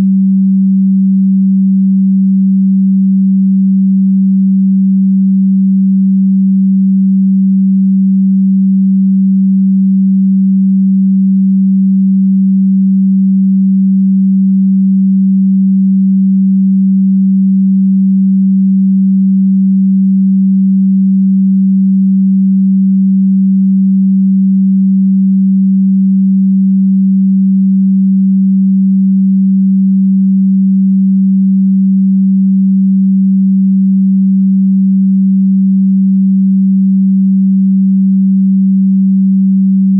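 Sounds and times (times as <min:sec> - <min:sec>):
low electronic sine tone: 0:00.0 - 0:39.9.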